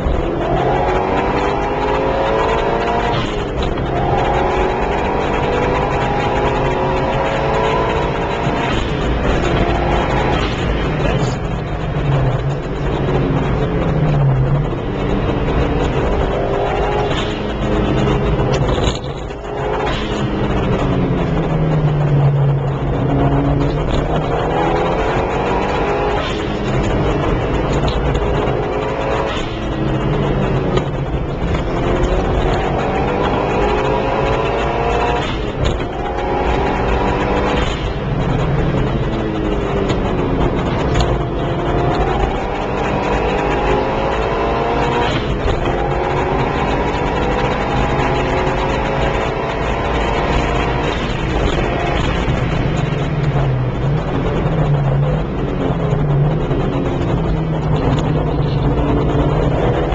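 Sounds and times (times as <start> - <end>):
car engine revving: 0.0 - 59.9
tyre and wind noise: 0.0 - 59.9.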